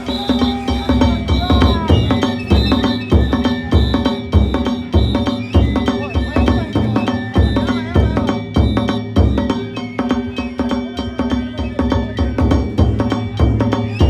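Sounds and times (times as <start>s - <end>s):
heavy drum beats: 0.0s - 14.0s
sharp percussion hits: 0.0s - 14.0s.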